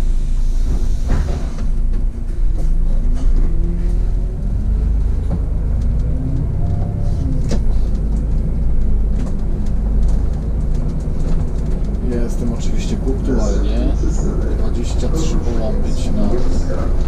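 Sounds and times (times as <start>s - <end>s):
bus engine rumble with whine: 0.0s - 17.0s.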